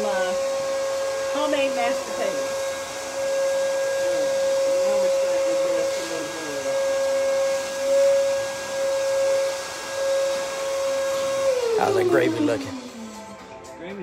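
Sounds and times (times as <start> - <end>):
electric motor whining: 0.0 - 13.8.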